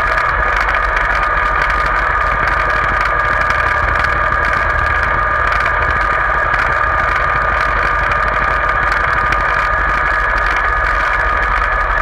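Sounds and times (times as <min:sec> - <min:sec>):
high whine: 0:00.0 - 0:12.0
tractor engine running: 0:00.0 - 0:12.0.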